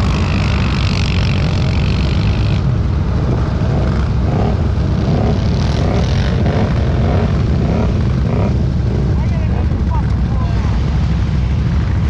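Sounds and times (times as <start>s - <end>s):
atv engine rumbling: 0.0s - 12.0s.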